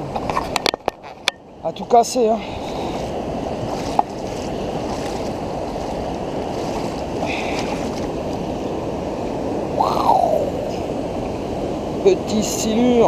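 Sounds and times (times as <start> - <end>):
river water rushing and lapping: 0.0 - 13.0.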